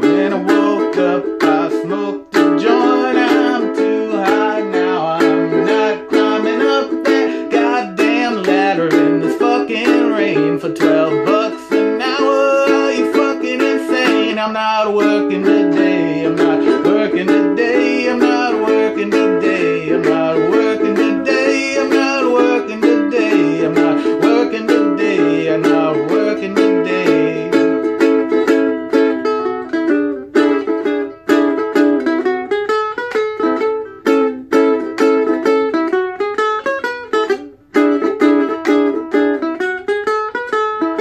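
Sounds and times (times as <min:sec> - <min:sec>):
acoustic strings strummed: 0:00.0 - 0:41.0.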